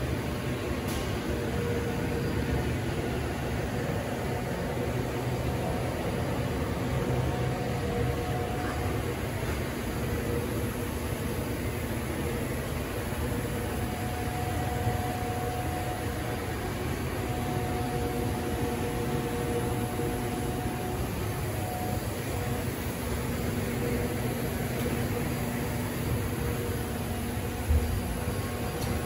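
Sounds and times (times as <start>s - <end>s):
machinery hum and hiss: 0.0s - 29.0s.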